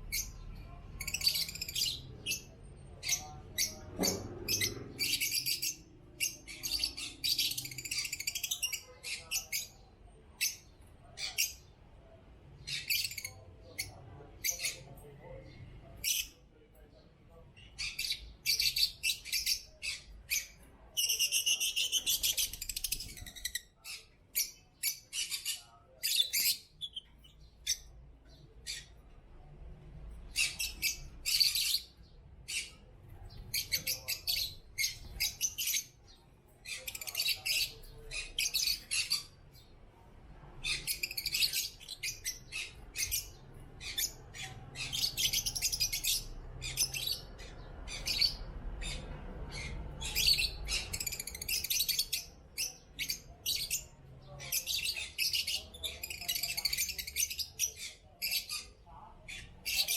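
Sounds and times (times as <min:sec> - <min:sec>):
lovebirds chirping and squawking: 0:00.0 - 0:59.9.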